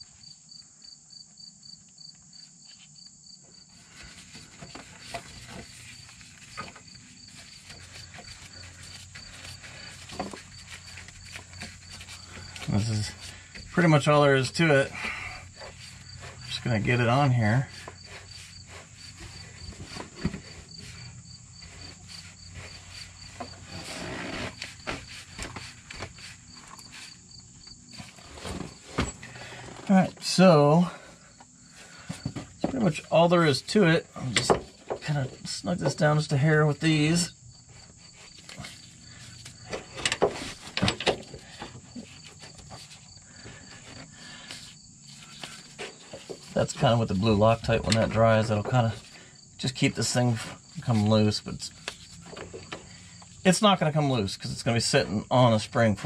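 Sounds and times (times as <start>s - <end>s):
cricket chirping: 0.0s - 56.0s
faint rubbing and scraping: 3.5s - 56.0s.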